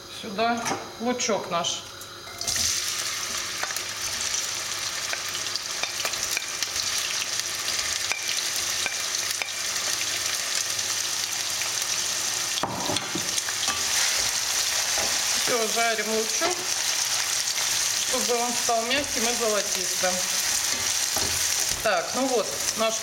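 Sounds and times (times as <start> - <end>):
onion sizzling in frying pan: 2.1 - 23.0.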